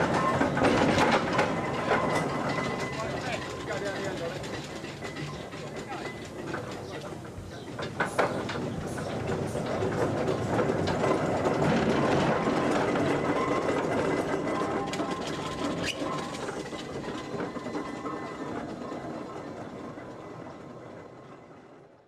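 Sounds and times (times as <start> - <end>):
steam engine chuffing: 0.0 - 20.6
iron wheels clattering: 0.0 - 21.9.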